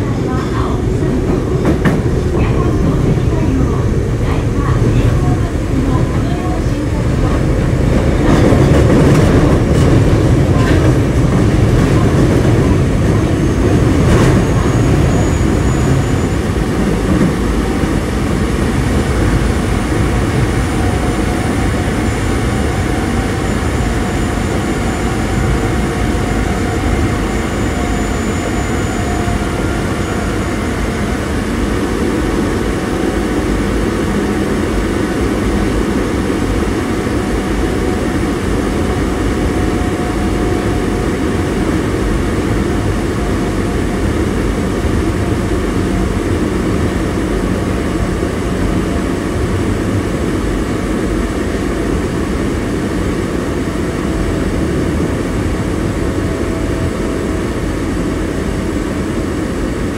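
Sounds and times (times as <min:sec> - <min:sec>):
subway train wheel and motor noise: 0:00.0 - 0:59.9.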